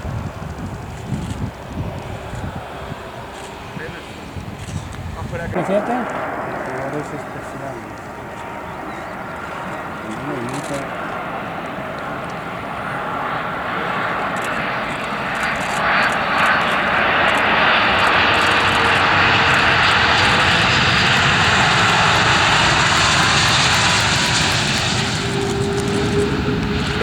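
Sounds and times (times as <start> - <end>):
jet airliner engines passing: 0.0 - 27.0.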